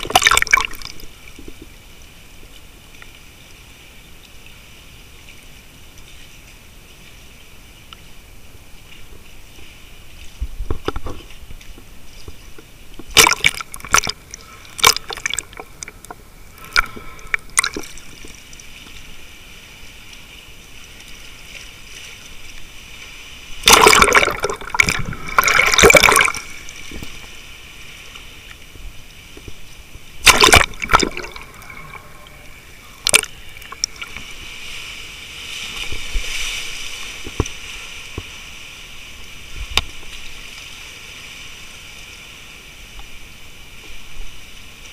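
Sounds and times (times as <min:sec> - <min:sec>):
sea water sloshing and gurgling: 0:00.0 - 0:07.3, 0:08.3 - 0:44.9
water splashes: 0:00.0 - 0:44.9.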